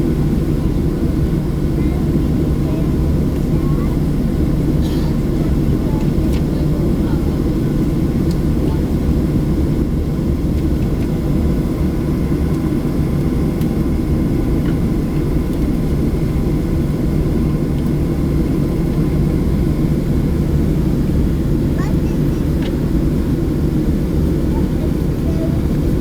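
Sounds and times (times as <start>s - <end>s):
airplane engines drone: 0.0s - 26.0s.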